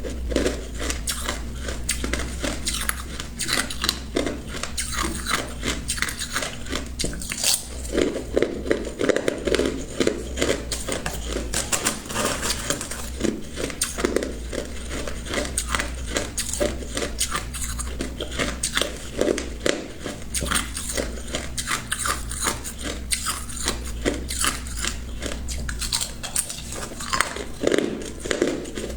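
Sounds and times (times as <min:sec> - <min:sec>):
person crunching ice: 0:00.0 - 0:28.9.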